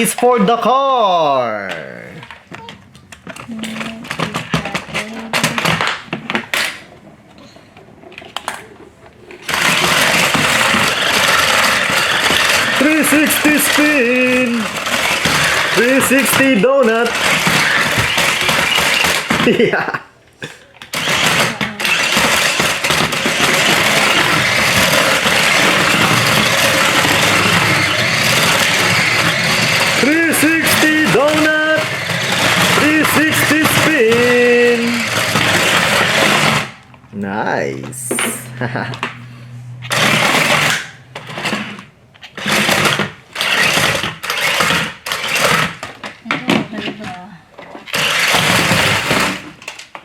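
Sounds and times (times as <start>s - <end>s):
toy car electric motors whirring: 1.6s - 19.7s, 20.8s - 36.9s, 38.0s - 50.0s.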